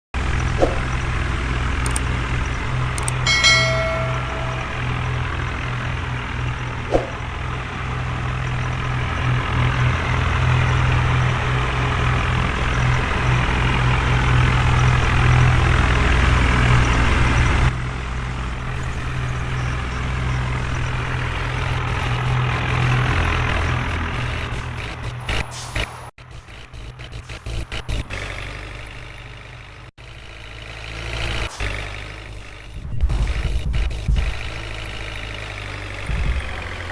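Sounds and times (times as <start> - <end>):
heavy diesel engine running: 0.2 - 25.6, 26.2 - 36.9.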